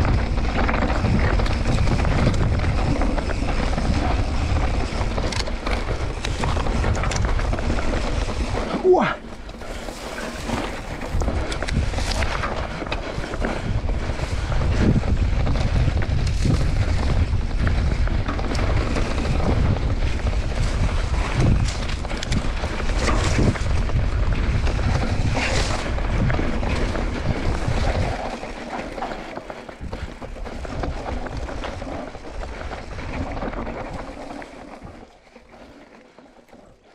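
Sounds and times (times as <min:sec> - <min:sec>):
wind buffeting microphone: 0:00.0 - 0:35.2
bike clicks and rattles: 0:00.0 - 0:36.9
tyres rumbling on dirt trail: 0:00.0 - 0:36.9.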